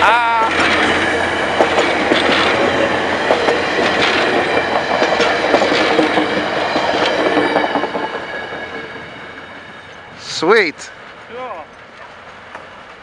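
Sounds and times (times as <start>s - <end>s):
train rumble: 0.0s - 13.0s
train wheels clicking on rails: 0.0s - 13.0s.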